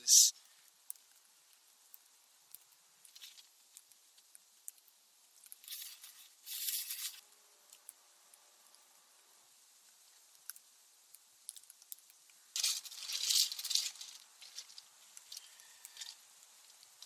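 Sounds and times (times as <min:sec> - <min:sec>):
freezing rain pellets ticking: 0:00.0 - 0:17.0.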